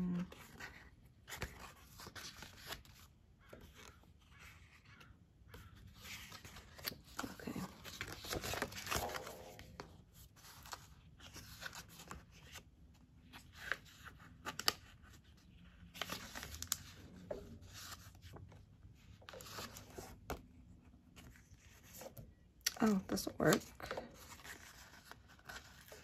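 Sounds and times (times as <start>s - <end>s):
paper pages rustling and flapping: 0.3s - 22.2s, 23.0s - 26.0s.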